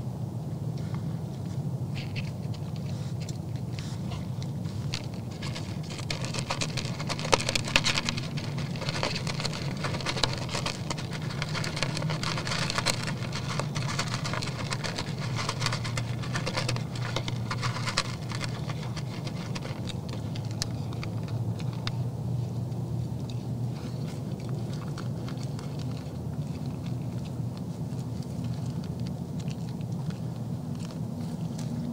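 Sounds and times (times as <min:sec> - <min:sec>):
deer chewing and crunching feed: 0:00.4 - 0:31.9.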